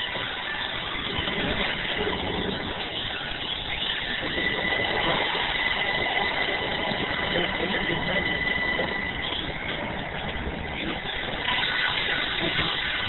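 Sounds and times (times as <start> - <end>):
bus engine and road noise: 0.0 - 13.0
thin high steady tone: 0.0 - 13.0.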